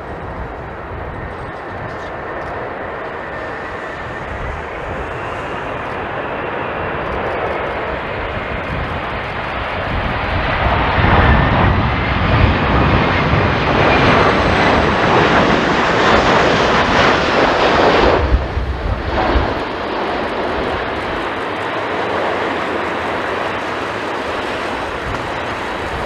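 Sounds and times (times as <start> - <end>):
jet engines passing: 0.0 - 26.0.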